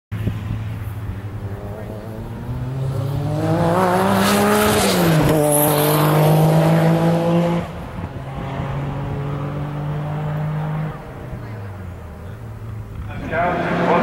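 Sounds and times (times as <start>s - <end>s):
race car engine accelerating: 0.4s - 14.0s.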